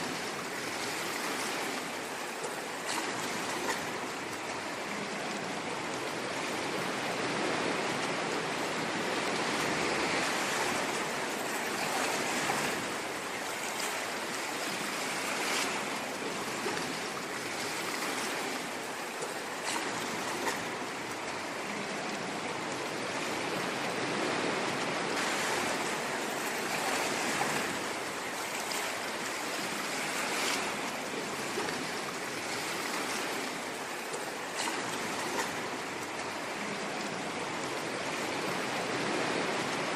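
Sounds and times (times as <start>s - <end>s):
ocean waves on shore: 0.0s - 39.9s.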